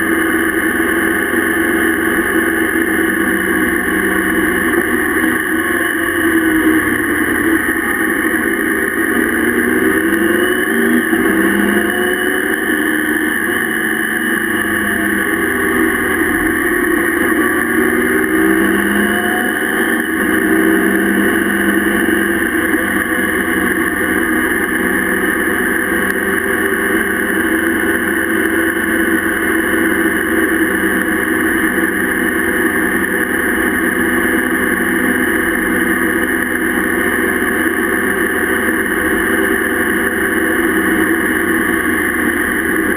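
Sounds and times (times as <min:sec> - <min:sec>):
motorcycle engine running: 0:00.0 - 0:42.9
road noise: 0:00.0 - 0:42.9.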